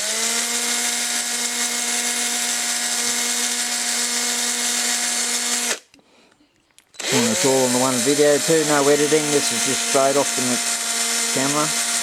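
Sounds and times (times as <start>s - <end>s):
small electric drill whining: 0.0s - 6.0s, 6.9s - 12.0s.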